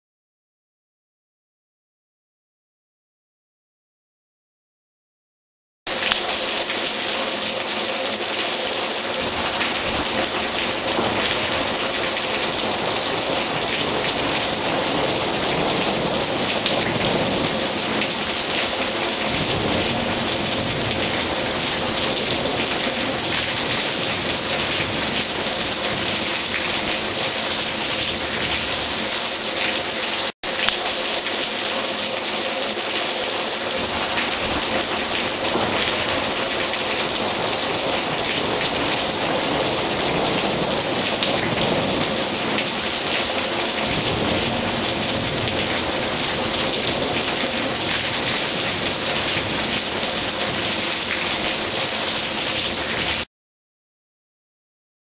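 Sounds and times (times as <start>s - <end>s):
steady rain falling: 5.9s - 53.3s
water pouring into rain barrel: 5.9s - 53.3s.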